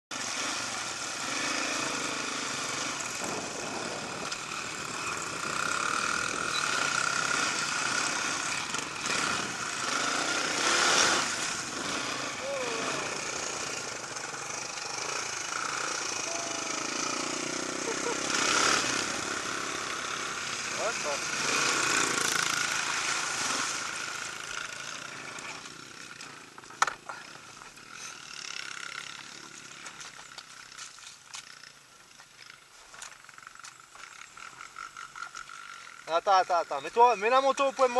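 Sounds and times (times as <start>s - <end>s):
dirt-bike engines revving: 0.1s - 37.9s.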